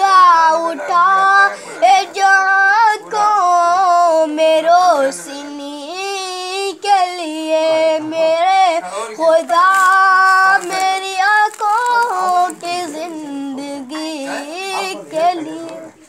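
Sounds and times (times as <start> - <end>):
child singing: 0.0 - 16.0.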